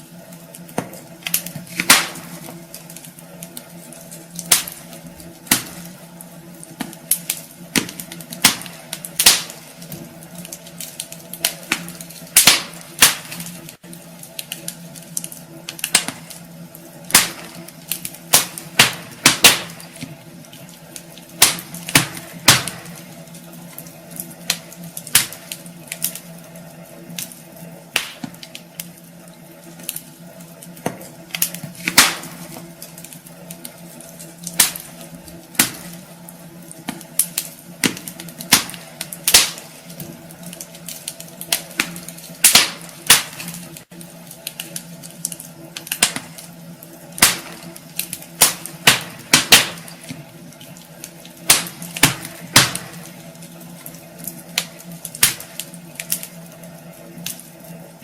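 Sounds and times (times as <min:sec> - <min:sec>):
faint steady hum: 0:00.0 - 0:58.0
wood fire crackling: 0:00.0 - 0:58.0.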